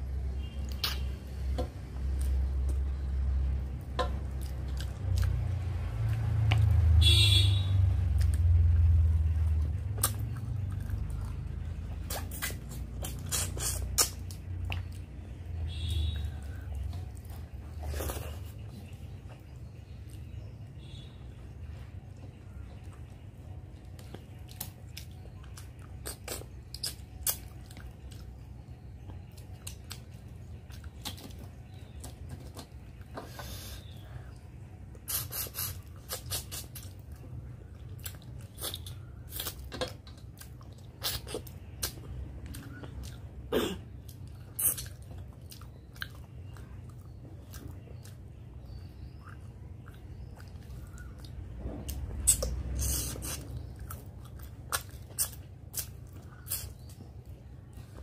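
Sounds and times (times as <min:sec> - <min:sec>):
steady low hum: 0:00.0 - 0:58.0
wet chewing and smacking: 0:00.5 - 0:07.0, 0:07.9 - 0:20.7, 0:21.4 - 0:58.0.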